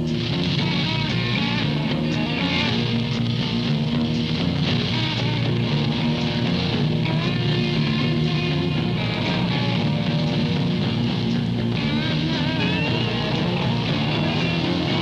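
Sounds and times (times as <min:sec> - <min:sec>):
electric guitar: 0:00.0 - 0:15.0
rock band instrumental: 0:00.0 - 0:15.0.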